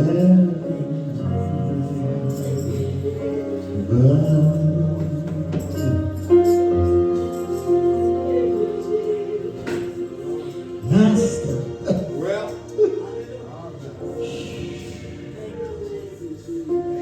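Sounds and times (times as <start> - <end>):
person singing: 0.0 - 13.3, 14.0 - 17.0
gospel worship music: 0.0 - 17.0.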